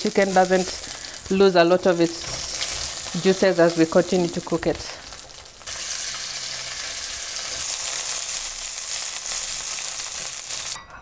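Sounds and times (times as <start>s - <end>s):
chicken sizzling in hot oil: 0.0s - 10.8s.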